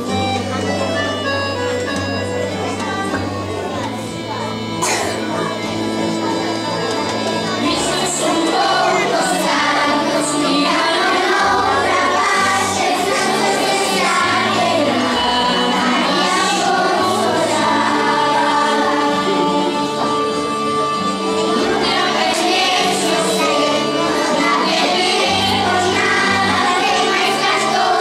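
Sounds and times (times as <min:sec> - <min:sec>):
children's choir singing: 0:00.0 - 0:28.0
instrumental accompaniment: 0:00.0 - 0:28.0.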